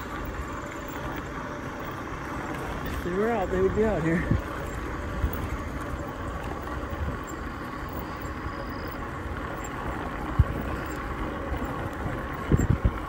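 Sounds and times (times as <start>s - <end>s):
bike tyre rumble on asphalt: 0.0s - 13.0s
faint electric motor whine: 0.0s - 13.0s.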